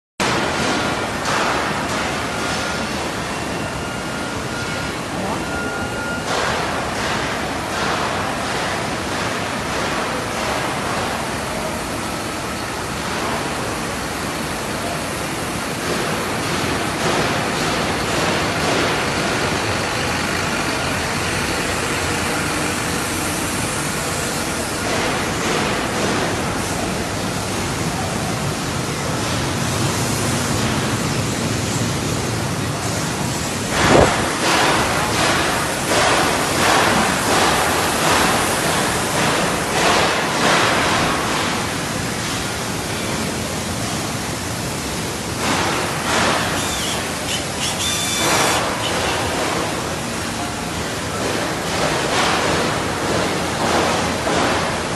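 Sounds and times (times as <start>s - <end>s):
factory hall background hiss: 0.2s - 54.9s.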